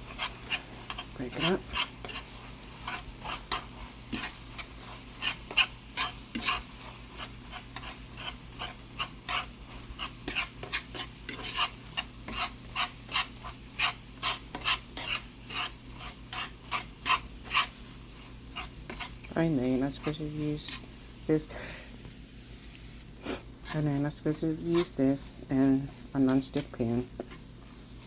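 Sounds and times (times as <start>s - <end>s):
utensil scraping a frying pan: 0.0s - 21.4s, 22.6s - 28.0s
eggs sizzling: 0.0s - 28.0s.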